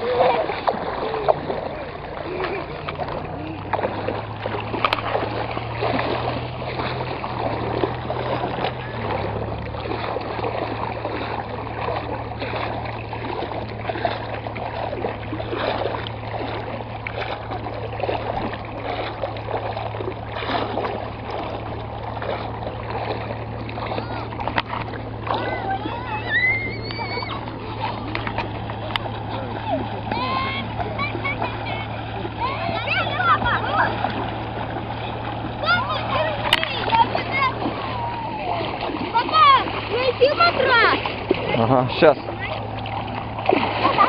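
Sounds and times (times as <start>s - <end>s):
low hum: 0.0s - 44.0s
river water splashing: 0.0s - 44.0s.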